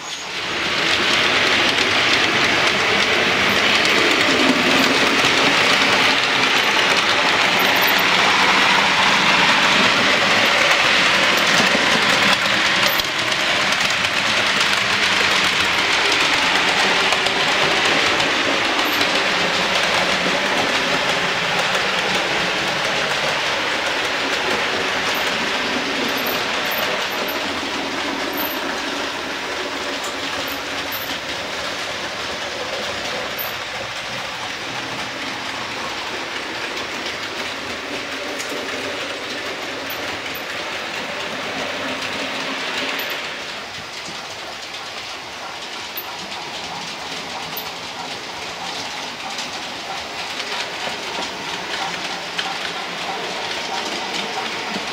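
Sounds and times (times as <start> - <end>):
model train wheels clattering: 0.0 - 54.9.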